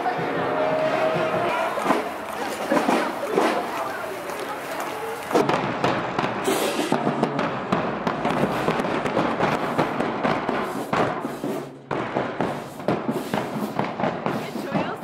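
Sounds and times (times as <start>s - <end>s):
bass drums beating: 0.0s - 4.1s, 5.2s - 15.0s
snare drums beating: 0.0s - 15.0s.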